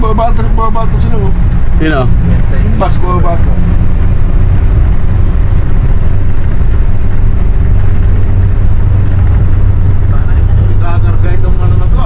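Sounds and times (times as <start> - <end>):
vehicle engine drone and road noise: 0.0 - 12.0.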